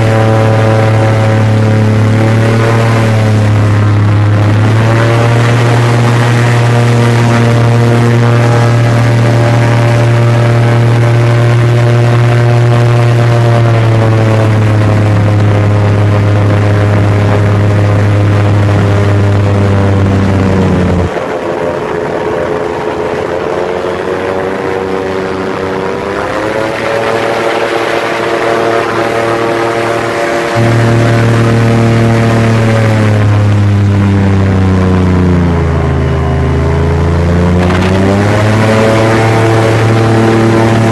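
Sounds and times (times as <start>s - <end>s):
deep low hum: 0.0s - 21.8s, 28.8s - 40.9s
airboat engine and propeller drone: 0.0s - 40.9s.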